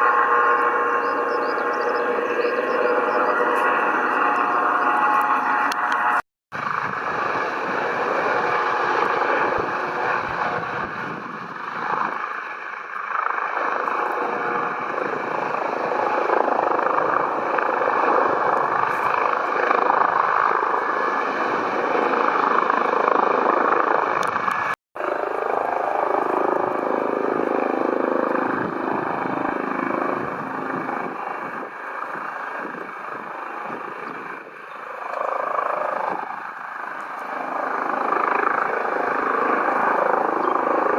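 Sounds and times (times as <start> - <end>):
helicopter turbine and rotor noise: 0.0 - 40.9.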